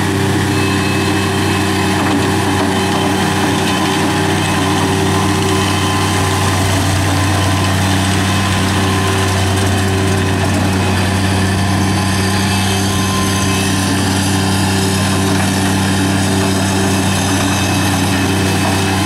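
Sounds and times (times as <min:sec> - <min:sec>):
track loader engine running: 0:00.0 - 0:19.0.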